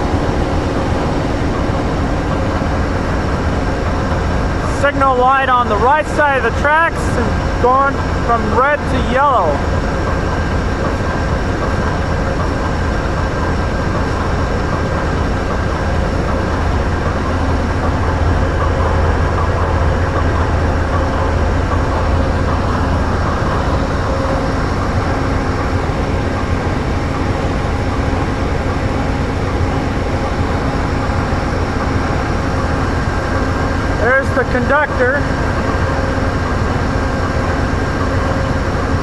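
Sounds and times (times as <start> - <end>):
diesel locomotive idling: 0.0 - 39.0.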